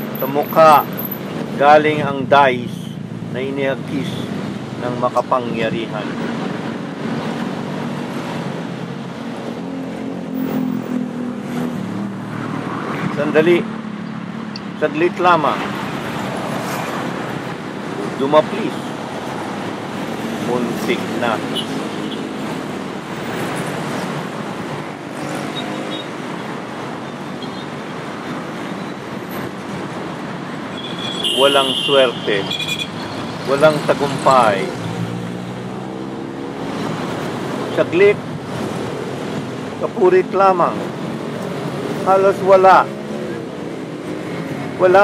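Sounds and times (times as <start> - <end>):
passing cars: 0.0 - 45.0
road traffic: 0.0 - 45.0.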